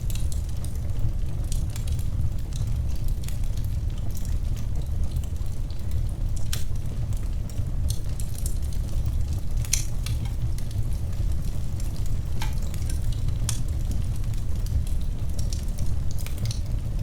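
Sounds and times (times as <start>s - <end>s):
crackles and pops of burning wood: 0.0s - 17.0s
wood fire burning: 0.0s - 17.0s.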